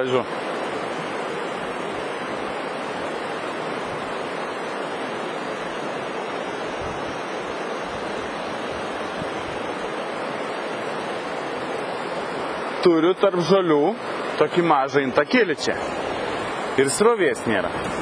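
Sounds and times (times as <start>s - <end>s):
river rushing over rocky rapids: 0.0s - 18.0s.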